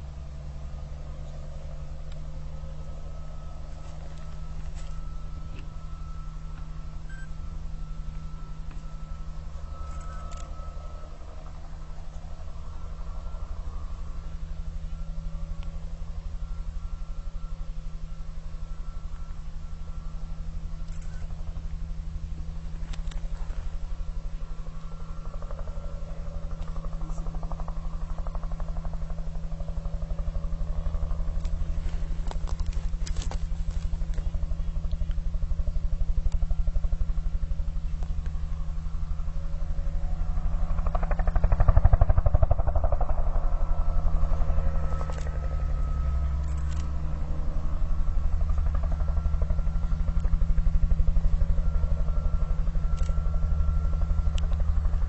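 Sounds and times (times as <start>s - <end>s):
motor droning: 0.0s - 55.0s.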